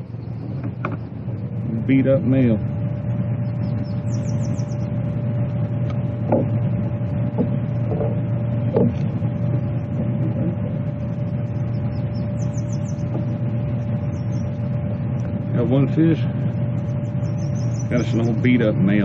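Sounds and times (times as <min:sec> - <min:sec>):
low motor-like hum: 0:00.0 - 0:19.0.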